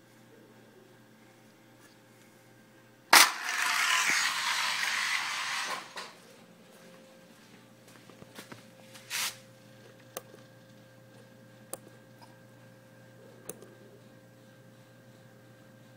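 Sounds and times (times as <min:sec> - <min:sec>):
faint electrical hum: 0:00.0 - 0:15.9.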